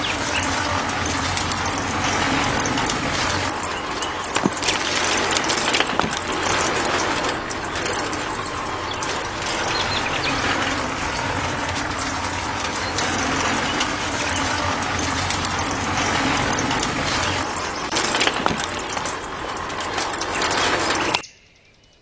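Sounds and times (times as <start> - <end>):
gritty rattle of sand and stones: 0.0 - 21.2
low motor hum: 0.0 - 21.2.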